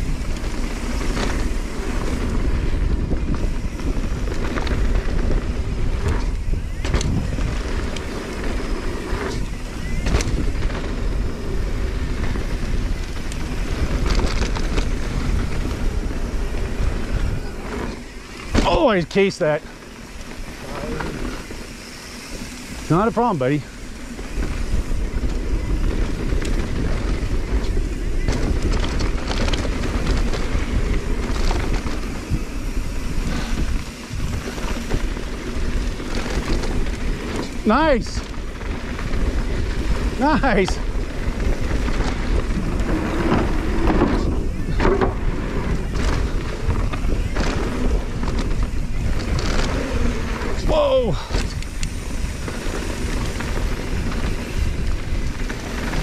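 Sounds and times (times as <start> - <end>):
bike clicks and rattles: 0.0 - 56.0
bike tyres rolling on dirt: 0.0 - 56.0
wind noise on microphone: 0.0 - 56.0.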